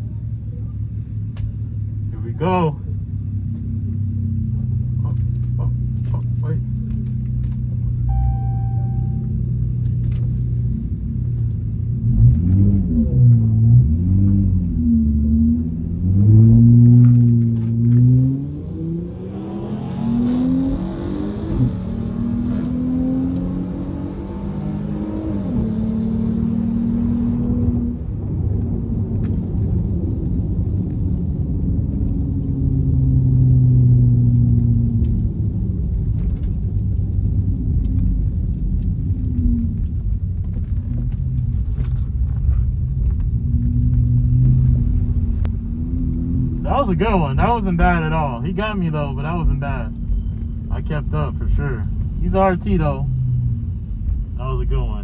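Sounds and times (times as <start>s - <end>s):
car engine accelerating: 3.4s - 55.0s.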